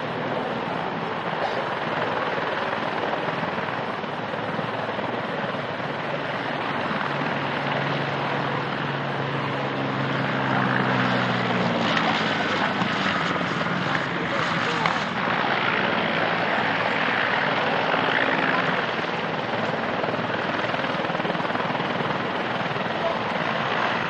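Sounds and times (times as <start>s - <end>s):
aircraft engine drone overhead: 0.0s - 24.0s.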